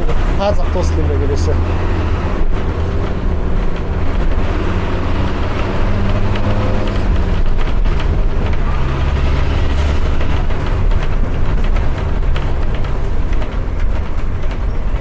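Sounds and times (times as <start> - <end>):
bus body rattling: 0.0 - 15.0
bus engine drone: 0.0 - 15.0.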